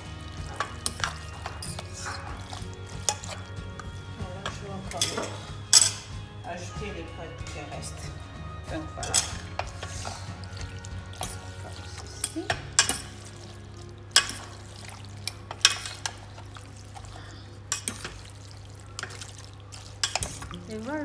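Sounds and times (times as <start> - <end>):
wet stirring of pasta: 0.0 - 6.4, 7.6 - 21.0
low steady hum: 0.0 - 21.0
utensils clinking against metal pot: 0.0 - 21.0.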